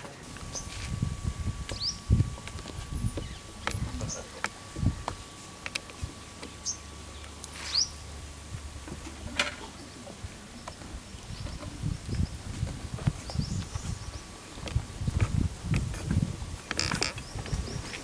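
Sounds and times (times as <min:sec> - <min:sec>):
birds chirping: 0:00.2 - 0:08.4, 0:09.0 - 0:15.4, 0:16.4 - 0:18.0.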